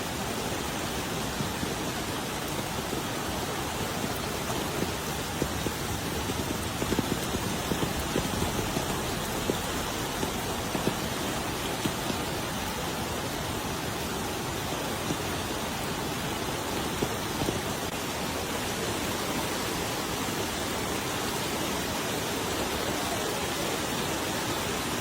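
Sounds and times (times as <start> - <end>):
heavy rain falling: 0.0 - 25.0
sharp rain ticks: 0.0 - 25.0.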